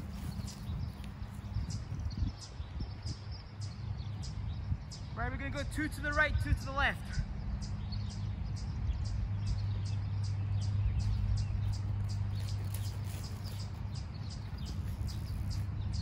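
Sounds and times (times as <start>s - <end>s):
bird chirping: 0.0s - 16.0s
steady low hum: 0.0s - 16.0s.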